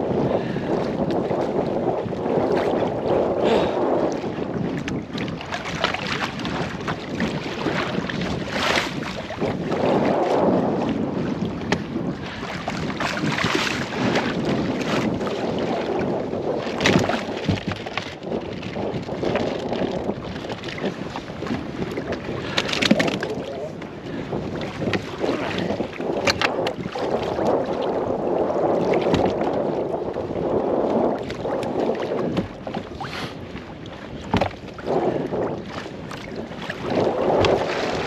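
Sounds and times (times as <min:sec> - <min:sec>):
water washing against hull: 0:00.0 - 0:38.0
wind buffeting microphone: 0:00.0 - 0:38.0.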